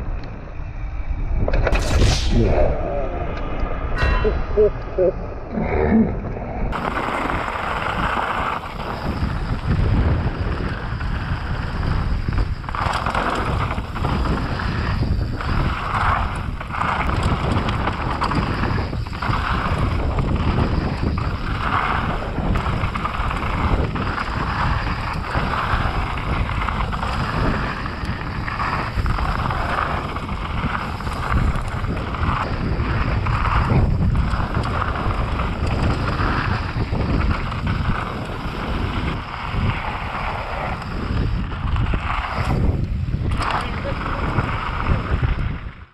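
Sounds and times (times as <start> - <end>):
wind buffeting microphone: 0.0 - 45.9
bike rumbling over rough ground: 5.8 - 45.9.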